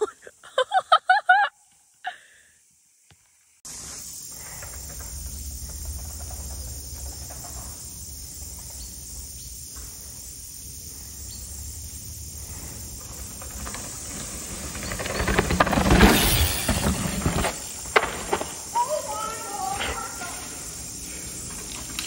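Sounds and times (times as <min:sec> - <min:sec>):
high-pitched insect drone: 0:03.7 - 0:22.0.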